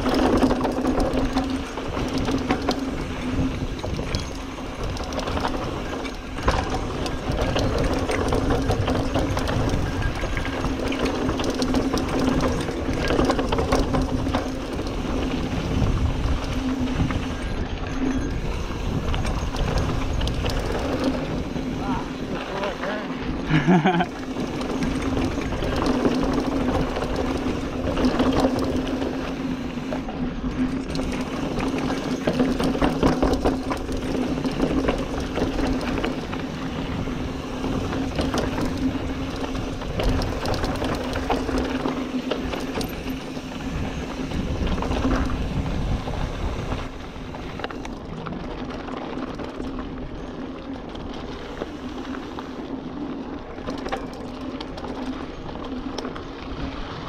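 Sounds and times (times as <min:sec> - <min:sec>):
bike rattling over bumps: 0:00.0 - 0:57.0
bike tyres crunching on dirt: 0:00.0 - 0:57.0
rear hub buzzing: 0:00.0 - 0:57.0.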